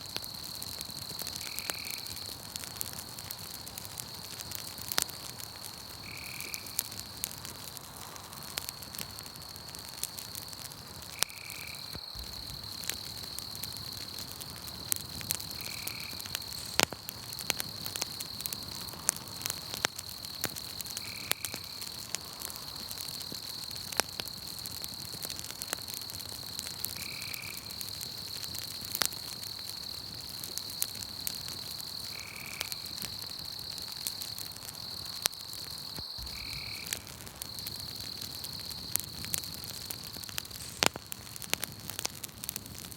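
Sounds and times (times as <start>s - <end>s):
campfire crackling and popping: 0.0s - 42.9s
high insect trill: 3.0s - 7.4s, 11.1s - 25.2s, 25.9s - 41.9s.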